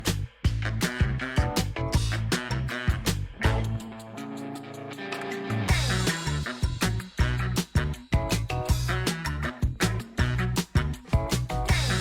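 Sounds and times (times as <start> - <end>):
funk music with drums and guitar: 0.0 - 12.0.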